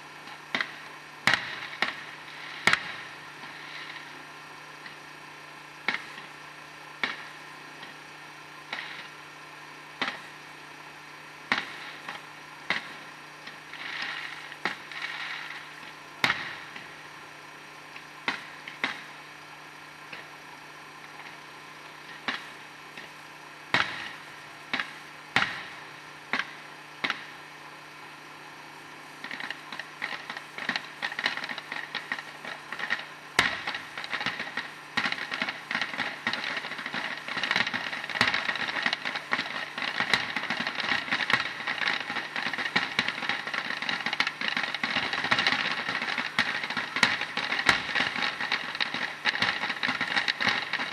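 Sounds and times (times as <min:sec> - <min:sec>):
fireworks popping and crackling: 0:00.0 - 0:50.9
steady low hum: 0:00.0 - 0:50.9.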